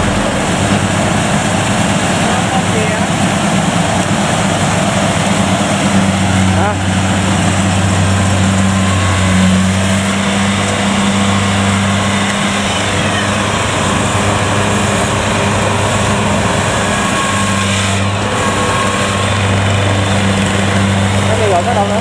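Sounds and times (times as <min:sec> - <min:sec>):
combine harvester mechanical drone: 0:00.0 - 0:22.0.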